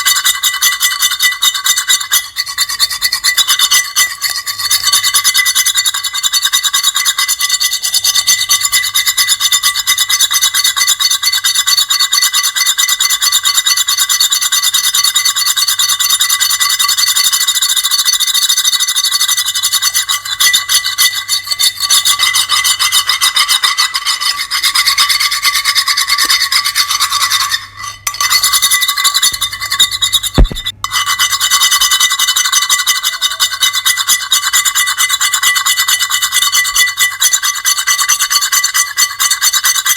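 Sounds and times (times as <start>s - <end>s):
shrill grating scrape: 0.0s - 12.7s, 17.4s - 39.9s.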